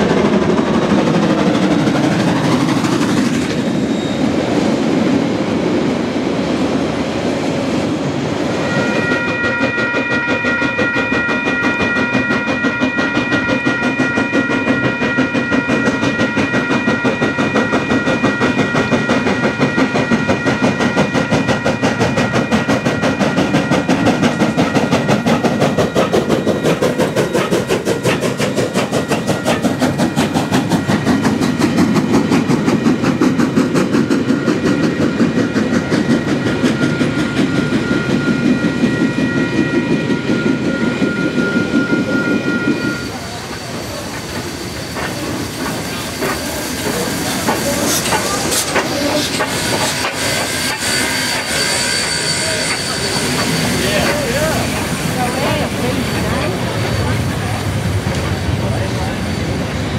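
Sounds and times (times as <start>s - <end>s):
level-crossing warning bells: 0.0s - 6.0s, 6.6s - 59.9s
steam locomotive exhaust beats: 0.0s - 59.9s
train wheels rumbling and clattering: 0.0s - 59.9s.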